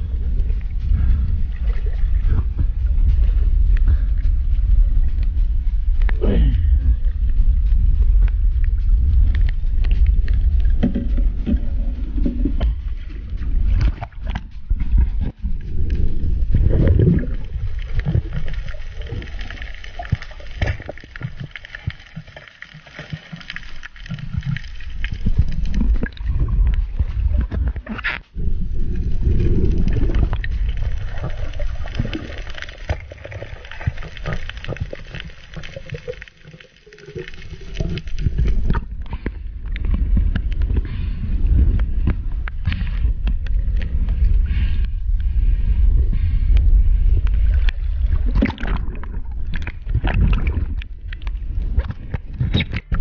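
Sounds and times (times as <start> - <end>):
muffled underwater water gurgling: 0.0 - 53.0.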